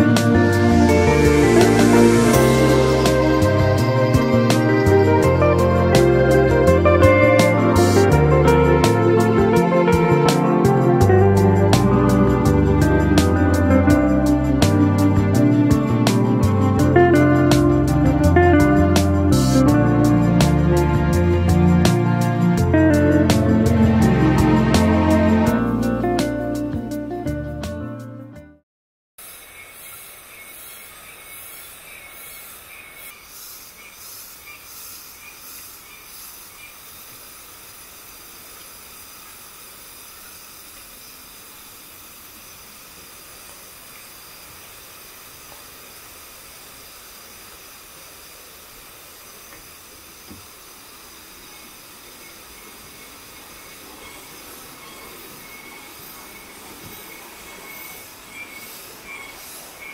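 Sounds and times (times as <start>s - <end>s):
insects buzzing: 0.0s - 20.7s, 29.2s - 59.9s
steady hiss: 0.0s - 20.8s, 29.2s - 59.9s.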